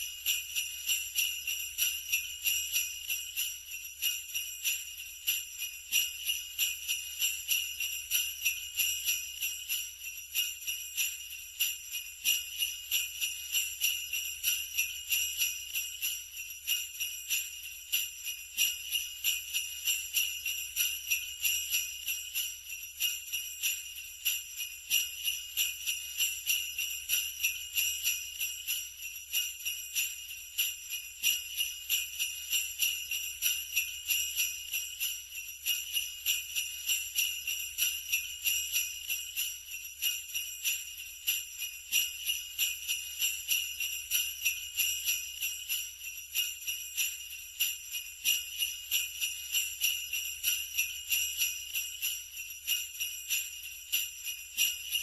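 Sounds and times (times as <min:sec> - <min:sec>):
sleigh bells jingling: 0:00.0 - 0:55.0.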